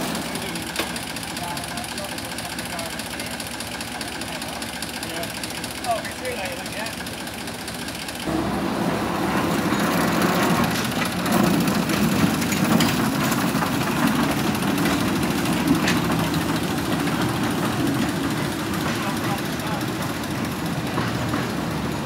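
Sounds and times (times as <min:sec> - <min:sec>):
small locomotive engine running: 0:00.0 - 0:22.0.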